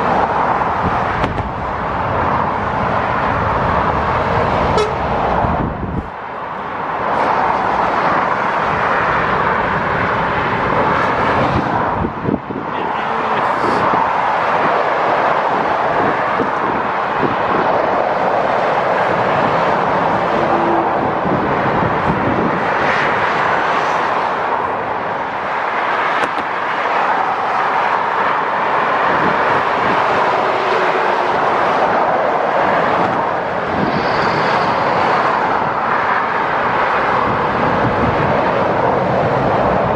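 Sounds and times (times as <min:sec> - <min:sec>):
road traffic rush: 0:00.0 - 0:39.9.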